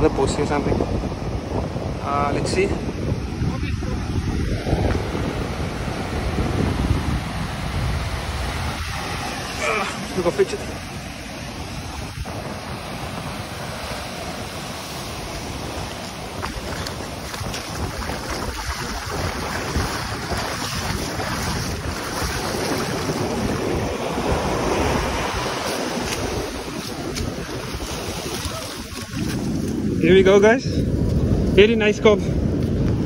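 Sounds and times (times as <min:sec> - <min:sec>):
foam washing up beach: 0:00.0 - 0:31.5
wind on microphone: 0:00.0 - 0:33.0
breaking surf: 0:02.0 - 0:30.5.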